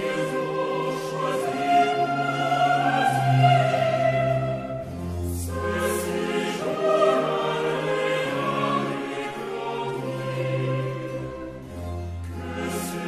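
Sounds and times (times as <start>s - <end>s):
choir singing held notes: 0.0s - 11.7s
orchestral accompaniment: 0.0s - 13.0s.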